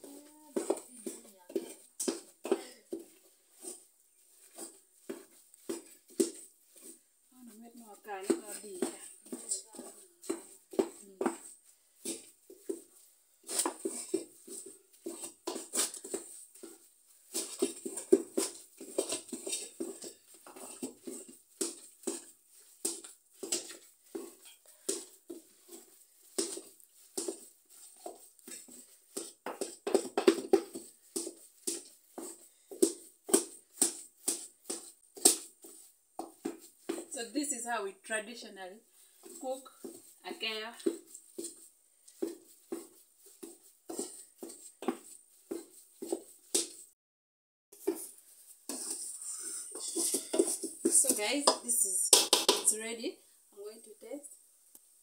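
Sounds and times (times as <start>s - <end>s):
wooden spoon scraping a pot: 0.0s - 37.6s, 38.8s - 46.9s, 47.7s - 53.4s.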